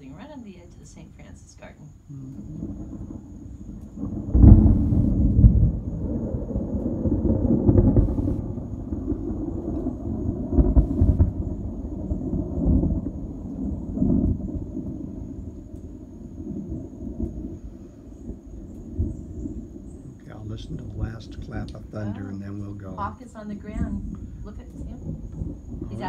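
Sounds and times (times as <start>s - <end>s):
thunder clap and rumble: 2.3s - 26.0s.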